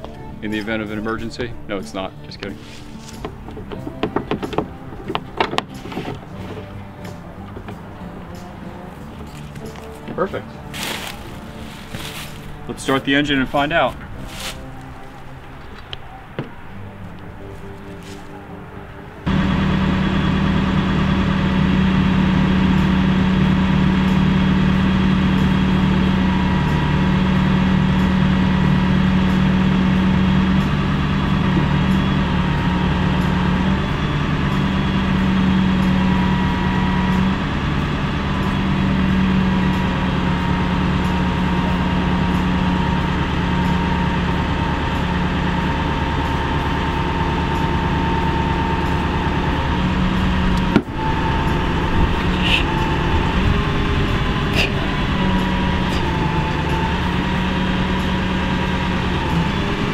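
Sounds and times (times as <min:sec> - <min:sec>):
engine running with low hum: 0:00.0 - 0:59.9.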